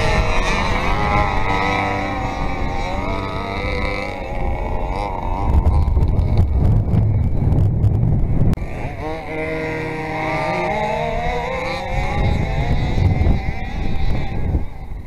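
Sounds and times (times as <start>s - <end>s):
rc car engines revving: 0.0s - 7.3s, 8.6s - 15.0s
low buffeting rumble: 0.0s - 15.0s.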